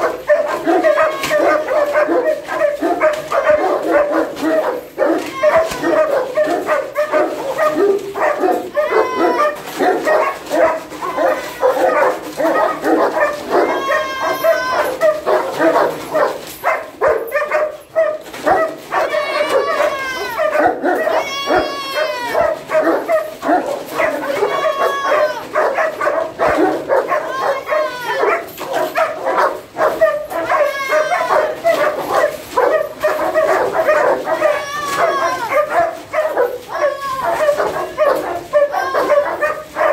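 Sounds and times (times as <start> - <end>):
dogs barking excitedly: 0.0 - 39.9
dogs whining and yelping: 0.0 - 39.9.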